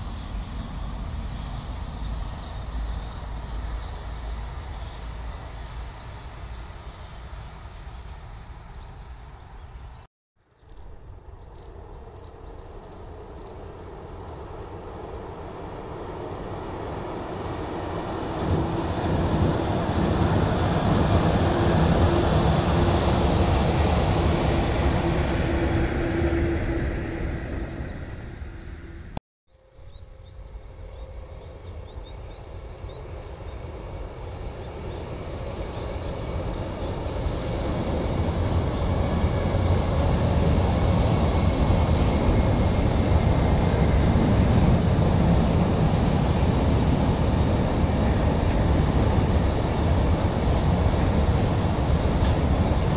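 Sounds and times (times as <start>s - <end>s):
train crossing a steel bridge: 0.0s - 52.9s.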